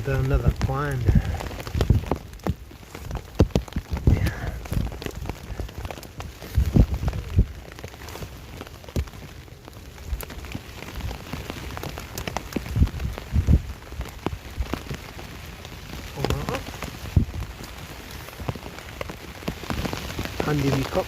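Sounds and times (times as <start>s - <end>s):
rain on a tarp: 0.0s - 21.0s.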